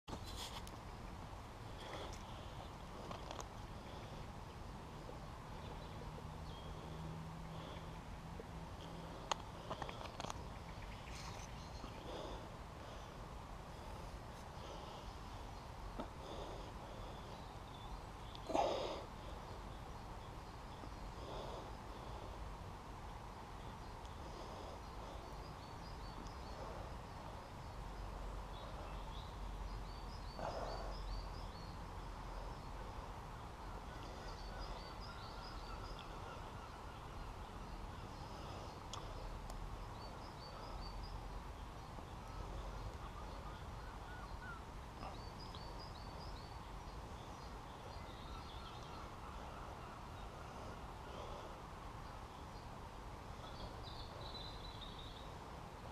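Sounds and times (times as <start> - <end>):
songbird chirping: 0.1 - 55.9.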